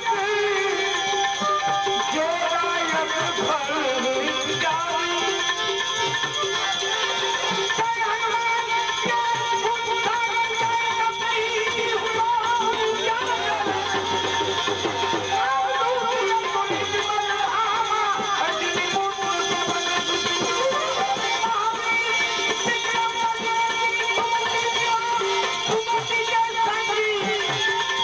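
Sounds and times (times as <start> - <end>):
hand percussion: 0.0 - 28.0.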